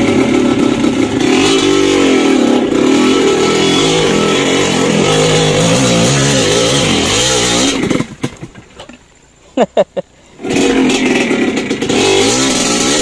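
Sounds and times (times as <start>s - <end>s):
motorcycle engine revving: 0.0s - 8.5s, 10.4s - 13.0s.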